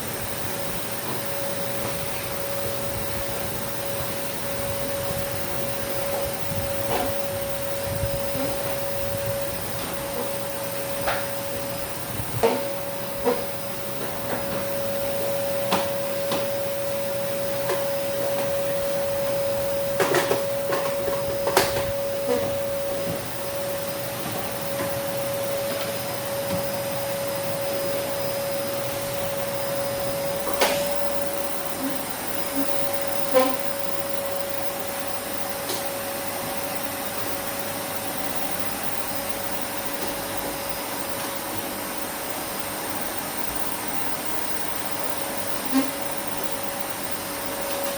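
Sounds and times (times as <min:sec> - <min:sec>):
vacuum cleaner whining: 0:00.0 - 0:47.9.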